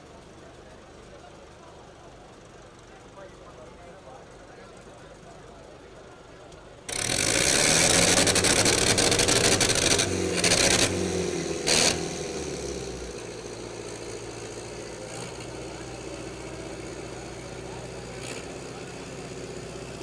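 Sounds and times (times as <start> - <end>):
tractor engine under heavy load: 0.0 - 20.0.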